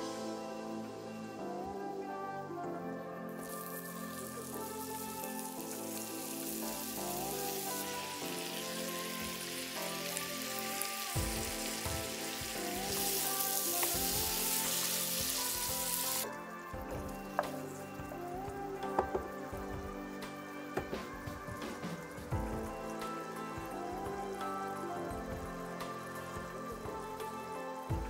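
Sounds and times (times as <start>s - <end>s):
background music: 0.0s - 28.0s
apples sizzling in a pan: 3.3s - 28.0s.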